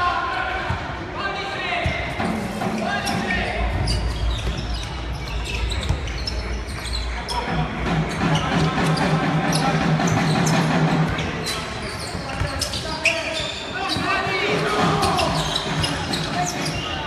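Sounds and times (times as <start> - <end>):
spectators' voices: 0.0 - 17.0
sneakers squeaking: 1.7 - 17.0.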